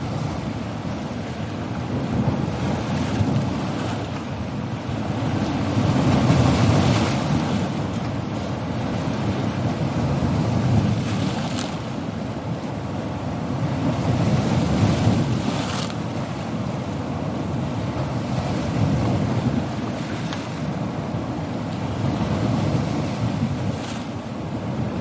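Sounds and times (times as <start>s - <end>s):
sea waves breaking: 0.0s - 25.0s.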